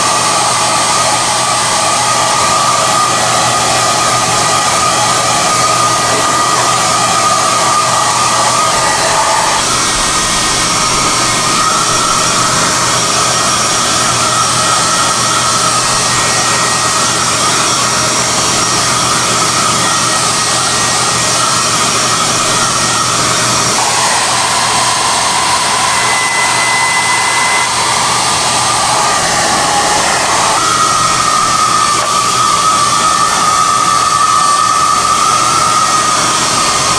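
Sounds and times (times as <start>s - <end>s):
hair dryer running: 0.0s - 36.9s.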